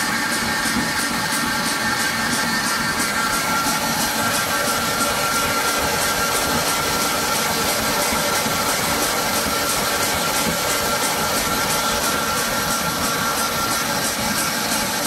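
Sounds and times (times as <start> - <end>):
paper ruling machine running: 0.0 - 15.0
faint even mechanical beat: 0.1 - 15.0.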